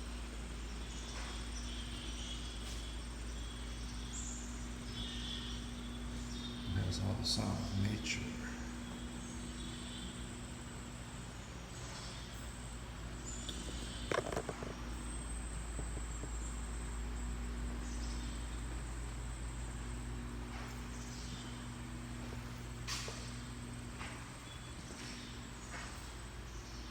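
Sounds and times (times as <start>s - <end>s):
crickets and insects chirring: 0.0s - 26.9s
steady low hum: 0.0s - 26.9s.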